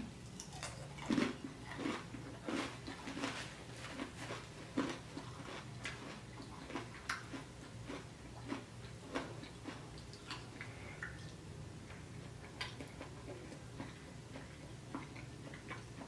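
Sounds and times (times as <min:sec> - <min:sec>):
chewing food: 0:00.4 - 0:16.0.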